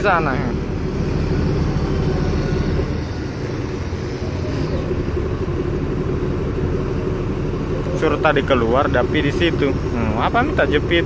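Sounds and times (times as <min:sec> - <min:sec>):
boat diesel engine rumbling: 0:00.0 - 0:11.0.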